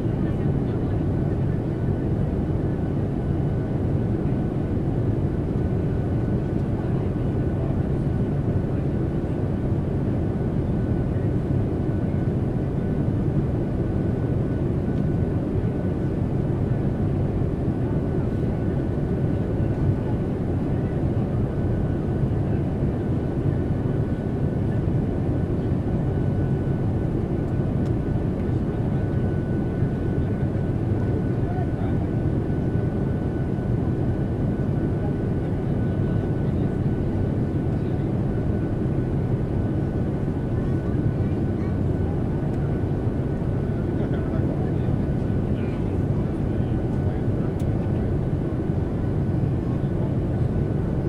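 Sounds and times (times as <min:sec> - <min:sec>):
engine and airflow rumble: 0:00.0 - 0:51.0.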